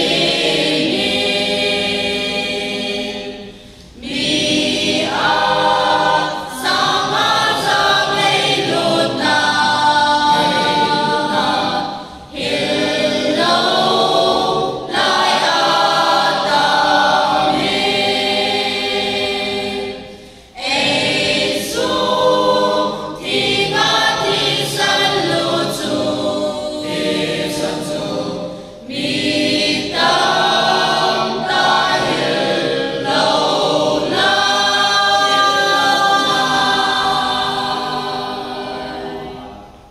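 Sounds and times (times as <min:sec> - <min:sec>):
mixed choir singing unaccompanied: 0:00.0 - 0:39.9.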